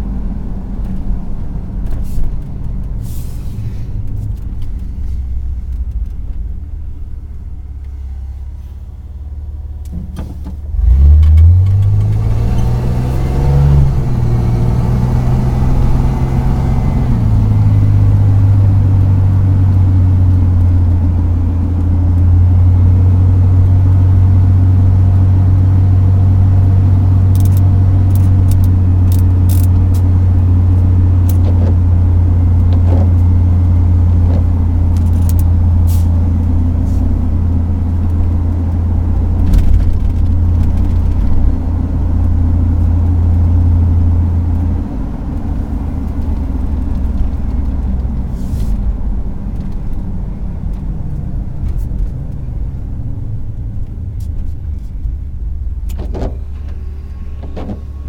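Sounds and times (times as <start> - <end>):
truck engine drone from cab: 0.0 - 58.0.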